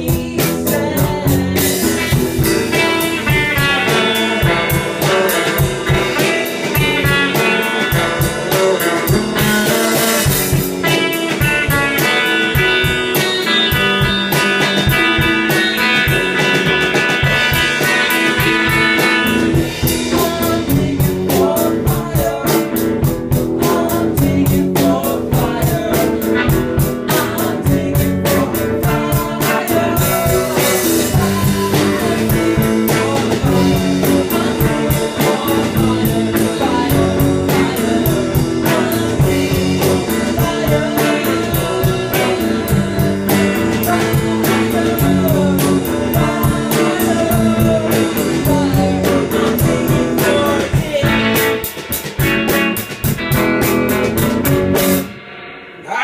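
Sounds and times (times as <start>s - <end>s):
drum kit playing: 0.0s - 56.0s
electric guitar: 0.0s - 56.0s.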